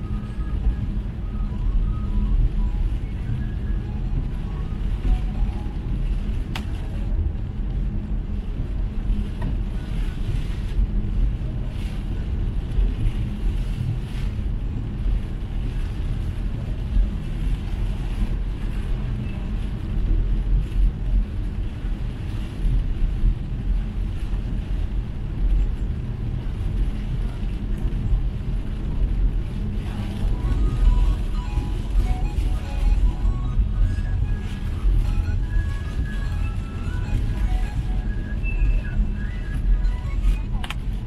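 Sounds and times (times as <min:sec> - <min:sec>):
rain hissing on car: 0:00.0 - 0:41.0
tyre noise on wet road: 0:00.0 - 0:41.0.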